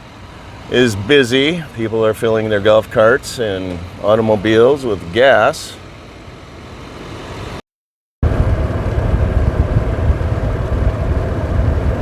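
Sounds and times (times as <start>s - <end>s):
vehicle and road noise: 0.0s - 7.6s, 8.2s - 12.0s.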